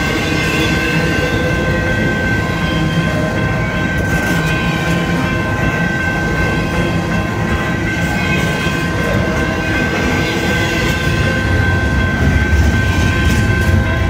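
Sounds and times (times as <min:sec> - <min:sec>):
high-pitched whine: 0:00.0 - 0:14.0
steel wheels rumbling on rail: 0:00.0 - 0:14.0.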